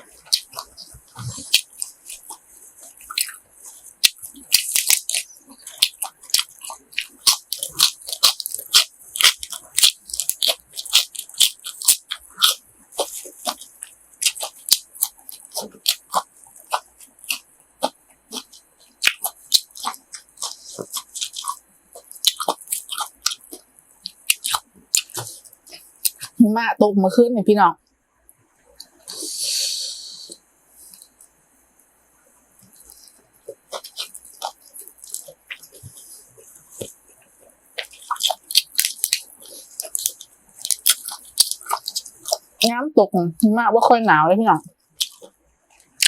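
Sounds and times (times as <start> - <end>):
crunchy chewing: 0.0 - 26.4, 28.3 - 29.6, 30.2 - 42.6, 44.6 - 46.0
faint steady hiss: 0.0 - 46.0.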